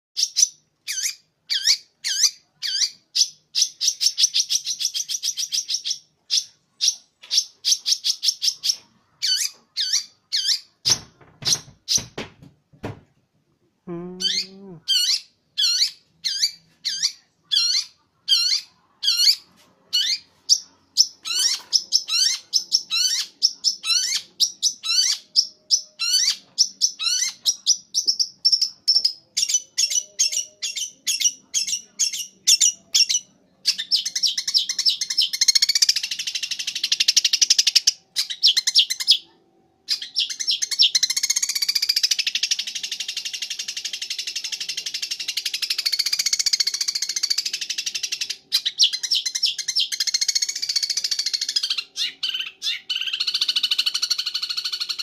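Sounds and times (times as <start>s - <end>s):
bird singing: 0.2s - 12.3s, 13.9s - 55.0s.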